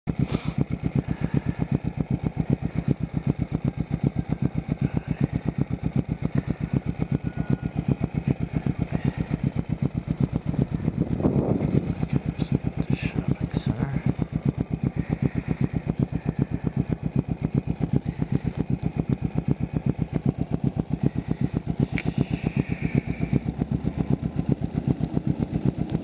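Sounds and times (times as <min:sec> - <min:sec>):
motorcycle engine idling: 0:00.1 - 0:26.0.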